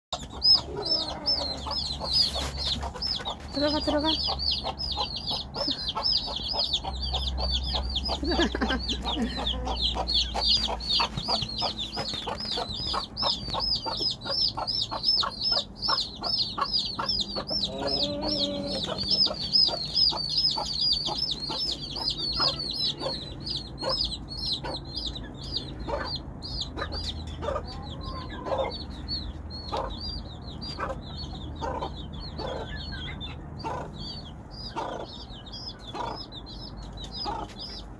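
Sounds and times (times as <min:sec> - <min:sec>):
chicks peeping: 0:00.1 - 0:37.9
hen clucking: 0:00.2 - 0:37.9.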